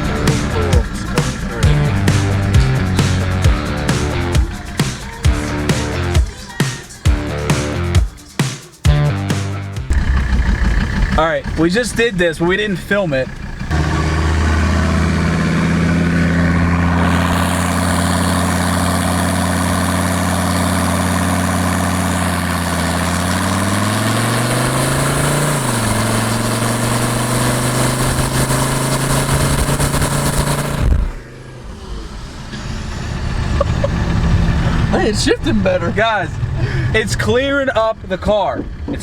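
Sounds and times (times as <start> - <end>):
diesel car engine accelerating: 0.0 - 8.3, 9.0 - 39.0.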